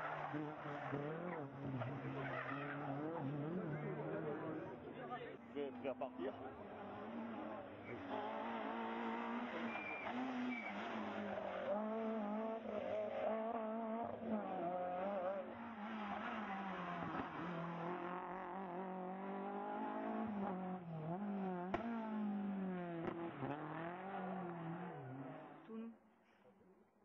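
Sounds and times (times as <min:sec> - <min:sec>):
rally car engine revving: 0:00.0 - 0:25.8.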